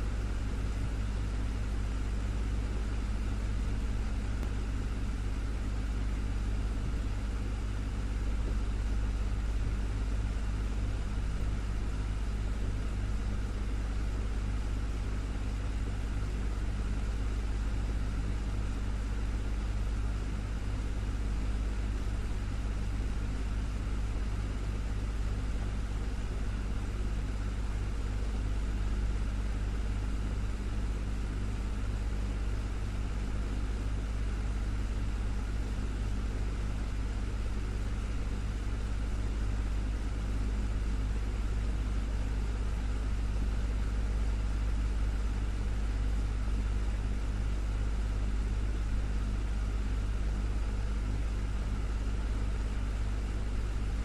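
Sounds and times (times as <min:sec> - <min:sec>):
fan motor hum: 0:00.0 - 0:54.0.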